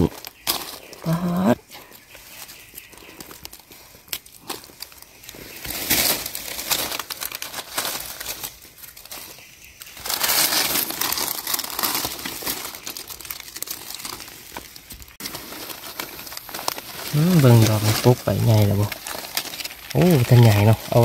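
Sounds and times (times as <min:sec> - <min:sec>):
dry leaves rustling and crackling: 0:00.0 - 0:21.0.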